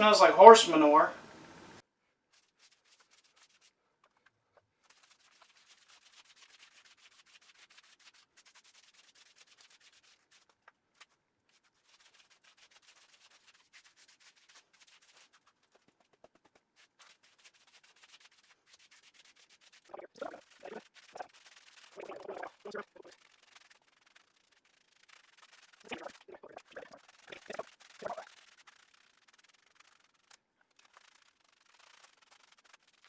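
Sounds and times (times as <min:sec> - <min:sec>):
paint brush rasping on masonry: 0:02.3 - 0:03.8, 0:04.8 - 0:10.6, 0:11.5 - 0:33.0.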